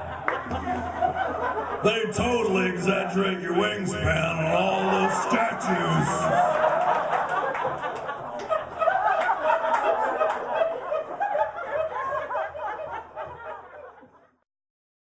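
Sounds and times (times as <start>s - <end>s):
audience laughing: 0.0s - 14.4s.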